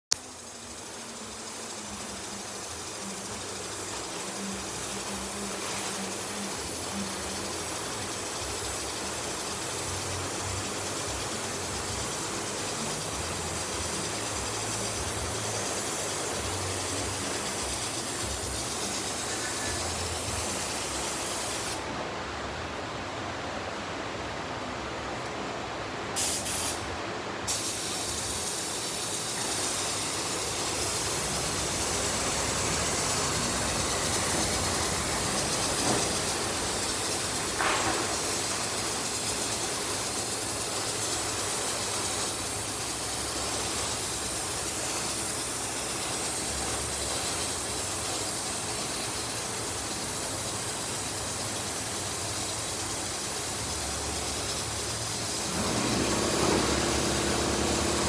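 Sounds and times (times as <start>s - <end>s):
air spray gun hissing: 0.1s - 21.8s, 26.2s - 58.0s.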